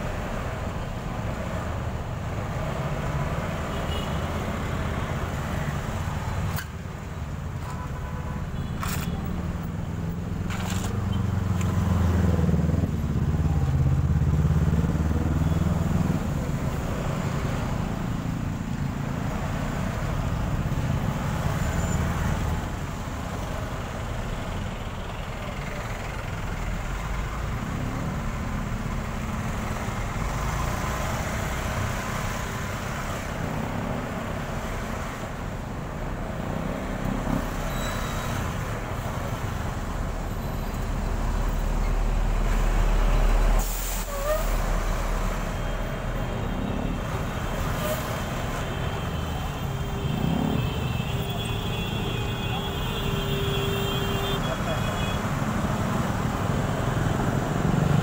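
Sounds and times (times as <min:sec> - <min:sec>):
traffic jam engines: 0:00.0 - 0:58.0.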